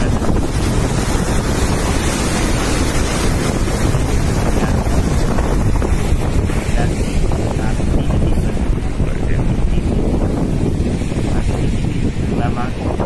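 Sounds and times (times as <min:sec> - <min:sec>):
water rushing through dam gates: 0:00.0 - 0:13.0
wind on microphone: 0:00.0 - 0:13.0.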